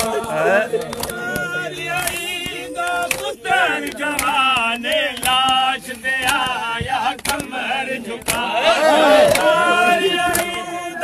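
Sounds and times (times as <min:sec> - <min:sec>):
men chanting a lament: 0:00.0 - 0:11.0.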